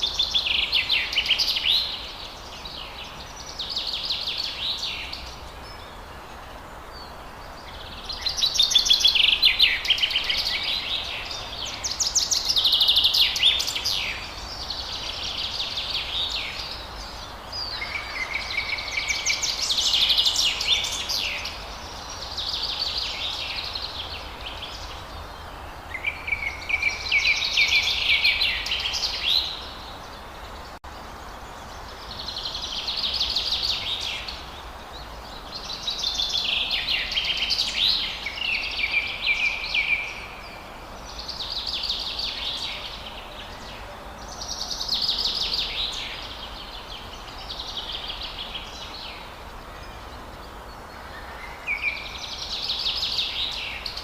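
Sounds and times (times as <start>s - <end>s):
faint steady hiss: 0.0s - 54.0s
songbirds trilling: 0.0s - 54.0s.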